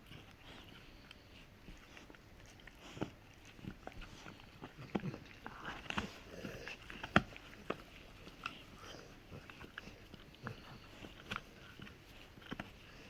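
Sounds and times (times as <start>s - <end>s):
dog gnawing on hard chew: 0.0s - 13.0s
teeth scraping and cracking: 0.0s - 13.0s.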